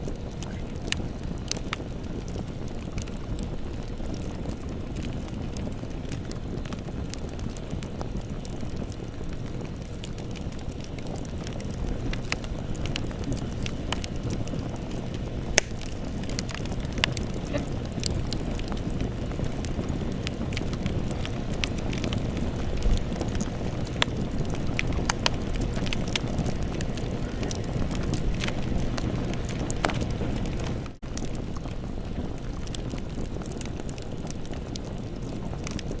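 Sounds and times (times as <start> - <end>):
burning wood crackling: 0.0 - 36.0
campfire flames rumbling: 0.0 - 36.0.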